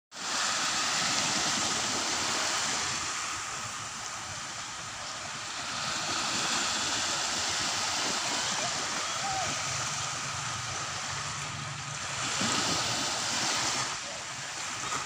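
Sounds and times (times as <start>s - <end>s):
small waves breaking on beach: 0.1s - 15.0s.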